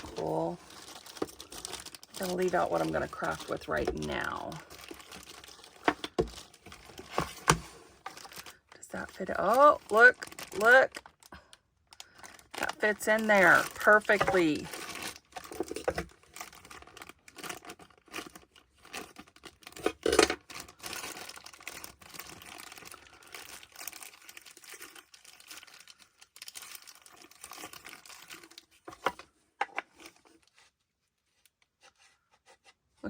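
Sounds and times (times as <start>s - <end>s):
plastic packaging crinkling: 0.0s - 30.7s.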